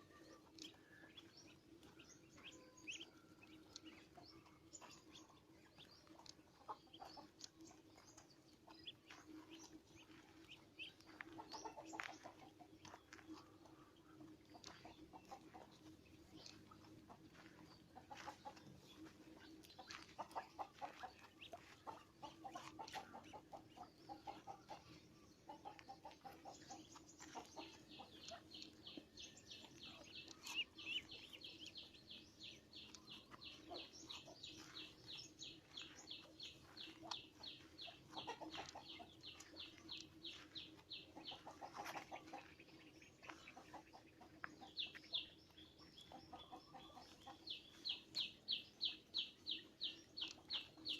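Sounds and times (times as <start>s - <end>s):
bird clucking: 0.0s - 50.9s.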